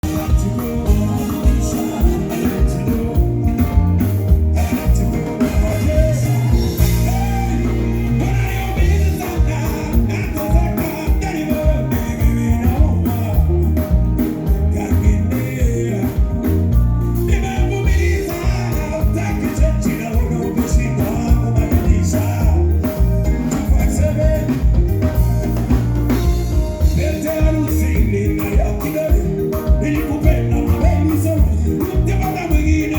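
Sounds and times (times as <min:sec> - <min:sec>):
drum kit: 0:00.0 - 0:32.9
live band playing: 0:00.0 - 0:32.9
person singing: 0:00.0 - 0:32.9
song with heavy bass and beat: 0:00.0 - 0:32.9.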